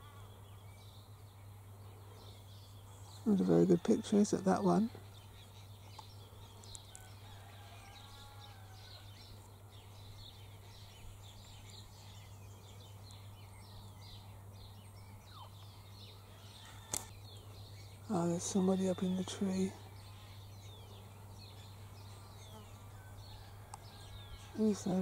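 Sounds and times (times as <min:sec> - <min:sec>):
wild birds chirping: 0:00.0 - 0:25.0.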